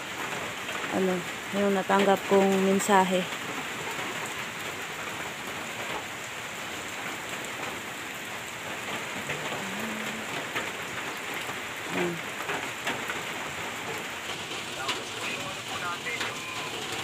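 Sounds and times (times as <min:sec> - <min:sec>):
steady rain on concrete: 0:00.0 - 0:17.0.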